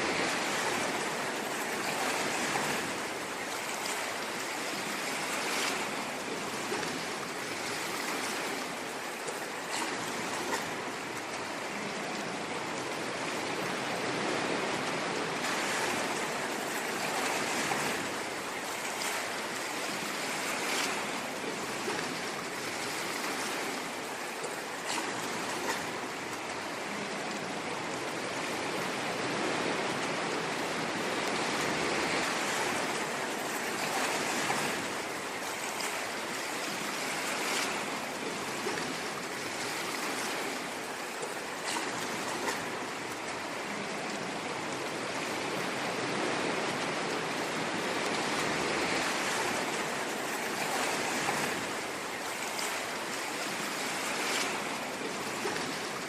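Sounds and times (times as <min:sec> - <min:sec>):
ocean waves washing on shore: 0:00.0 - 0:56.0
small water splashes: 0:00.0 - 0:56.0.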